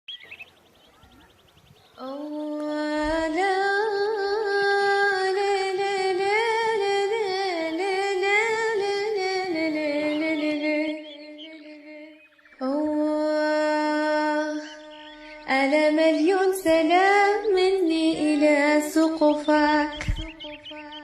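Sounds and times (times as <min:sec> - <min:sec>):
woman singing long note: 0:02.0 - 0:21.0.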